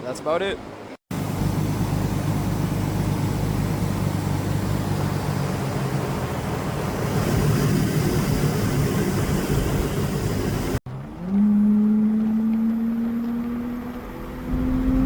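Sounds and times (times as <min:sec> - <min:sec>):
car engine running: 0:01.1 - 0:15.0.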